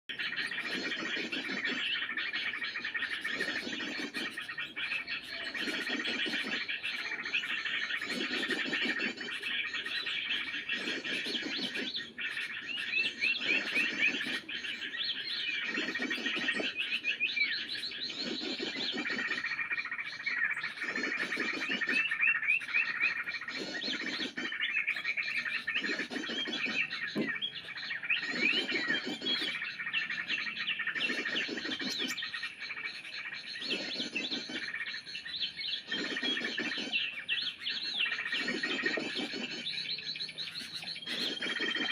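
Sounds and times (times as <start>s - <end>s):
birds chirping and twittering: 0.0s - 41.9s.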